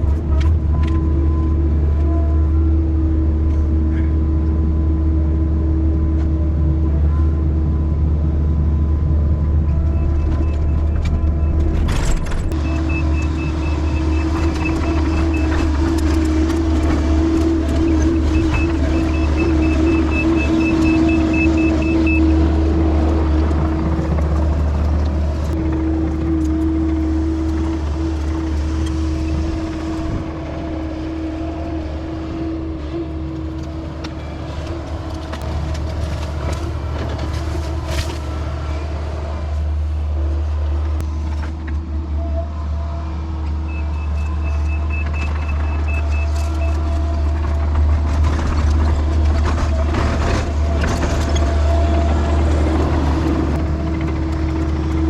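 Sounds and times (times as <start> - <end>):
diesel engine droning with whine: 0.0 - 55.0.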